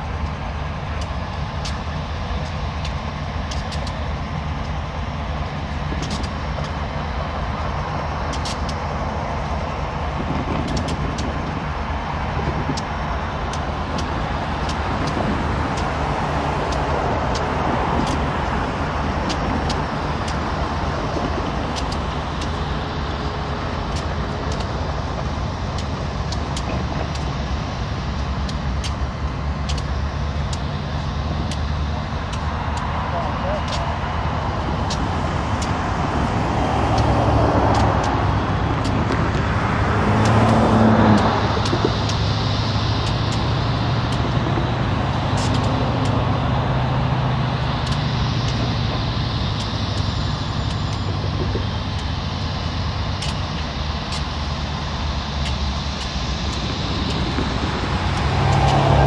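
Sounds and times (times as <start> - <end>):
locomotive engines humming: 0.0 - 59.0.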